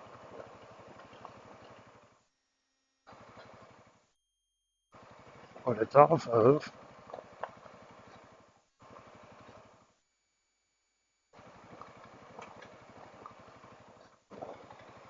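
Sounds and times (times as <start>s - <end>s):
faint motorcycle engine pulsing: 0.0s - 15.0s.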